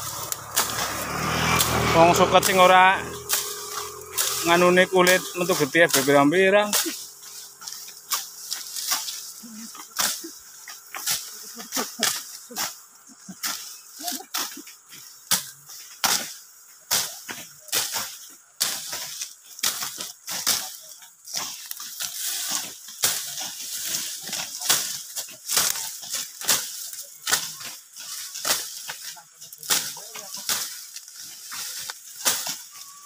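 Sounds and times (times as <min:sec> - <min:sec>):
machete chopping through grass: 0:00.0 - 0:12.8, 0:15.2 - 0:32.8
rustling and snapping stalks: 0:00.0 - 0:33.0.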